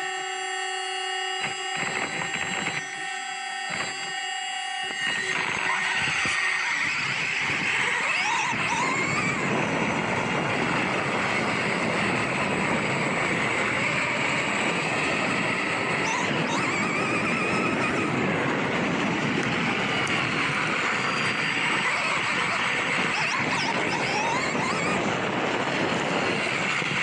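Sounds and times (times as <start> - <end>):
electric rc motorcycle motor whine: 0.0 - 27.0
steady rush of noise: 4.8 - 27.0.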